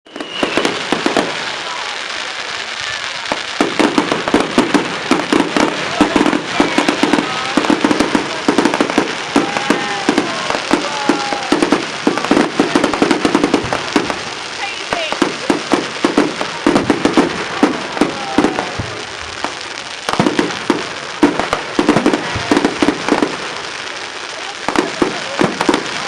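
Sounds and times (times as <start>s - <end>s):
fireworks crackling pops: 0.0s - 26.0s
continuous hiss: 0.2s - 26.0s.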